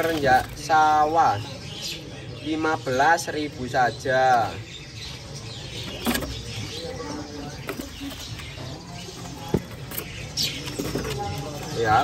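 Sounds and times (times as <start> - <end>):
bird chirps: 0.0 - 12.0
faint distant voices: 0.0 - 12.0.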